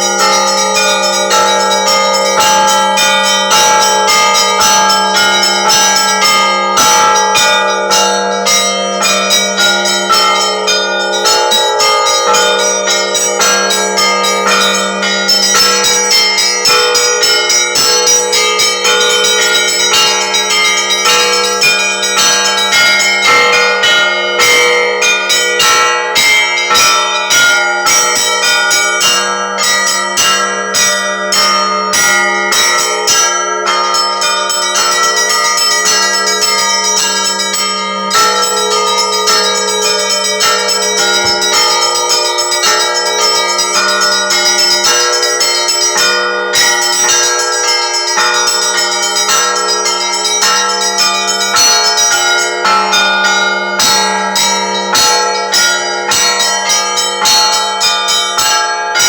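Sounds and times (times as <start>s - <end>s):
low hum of large bell: 0.0s - 59.0s
small church bells ringing: 0.0s - 59.0s.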